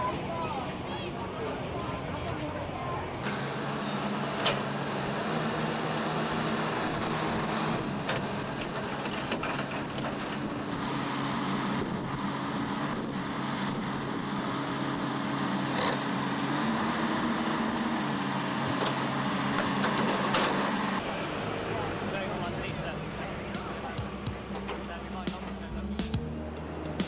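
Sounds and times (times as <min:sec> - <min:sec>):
excavator diesel engine: 0:00.0 - 0:27.0.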